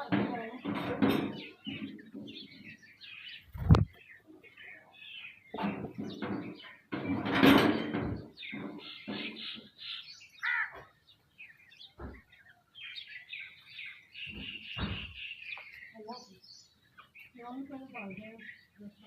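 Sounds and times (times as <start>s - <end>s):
flock of small birds chirping: 0.0s - 19.0s.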